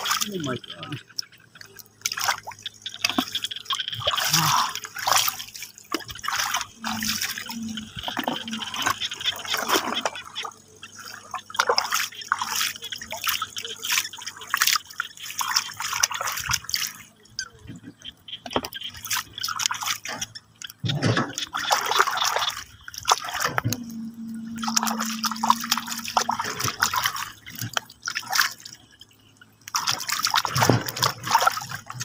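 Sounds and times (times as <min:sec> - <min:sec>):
shallow water splashing: 0:00.0 - 0:32.0.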